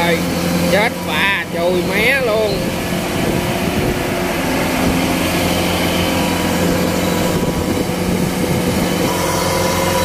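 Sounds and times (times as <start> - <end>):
diesel engine under heavy load: 0.0 - 10.0.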